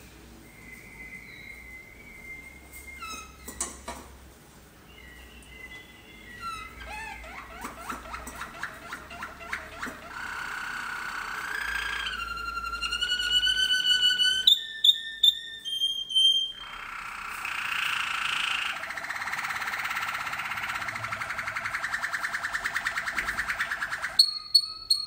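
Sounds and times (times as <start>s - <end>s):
canary singing: 0.4s - 3.8s, 4.8s - 25.0s.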